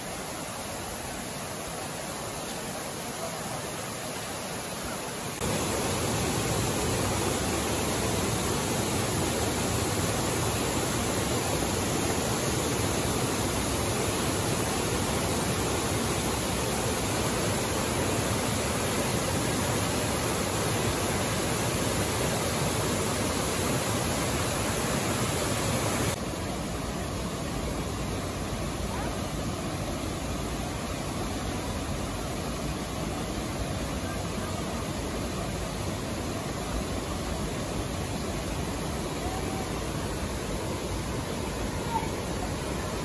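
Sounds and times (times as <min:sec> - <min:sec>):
stream pouring over rocks: 0:00.0 - 0:43.0.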